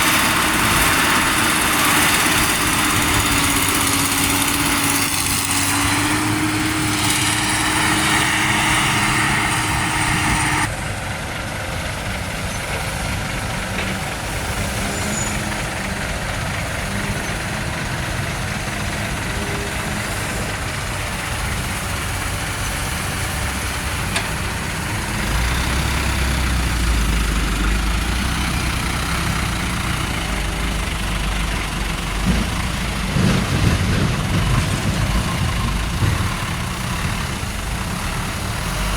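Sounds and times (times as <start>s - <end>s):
diesel truck engines idling: 0.0s - 38.9s
whining engine: 0.0s - 38.9s.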